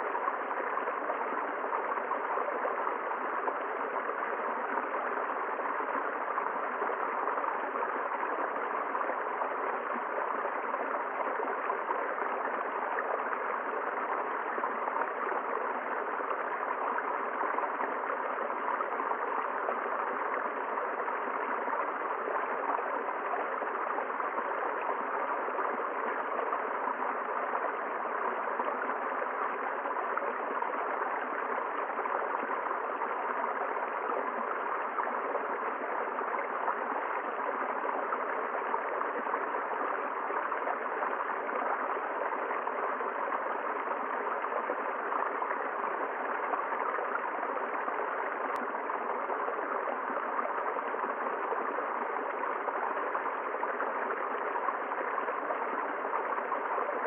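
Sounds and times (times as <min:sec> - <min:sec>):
river running over rocks: 0:00.0 - 0:57.0.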